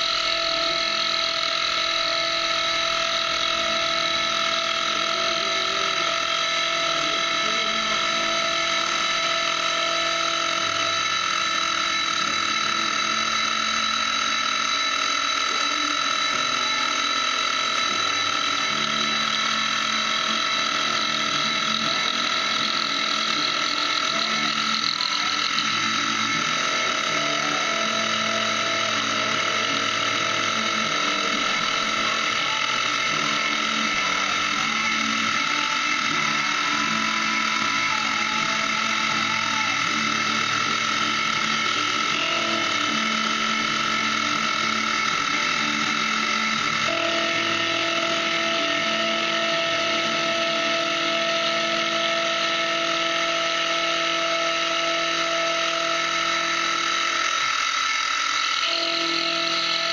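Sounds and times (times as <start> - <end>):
end mill cutting metal: 0.0 - 59.9
milling machine motor whine: 0.0 - 59.9.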